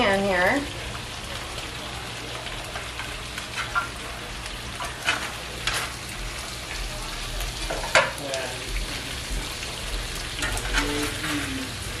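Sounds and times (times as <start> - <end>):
potatoes sizzling in a skillet: 0.0 - 12.0.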